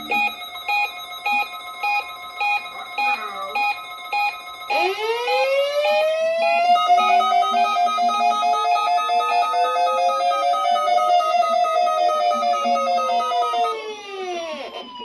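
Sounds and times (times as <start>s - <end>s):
faster beeping: 0.0s - 14.1s
repeating alert beeps: 0.0s - 15.0s.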